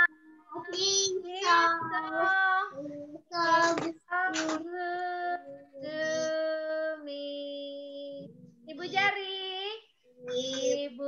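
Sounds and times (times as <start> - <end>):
woman and children singing: 0.0 - 11.0.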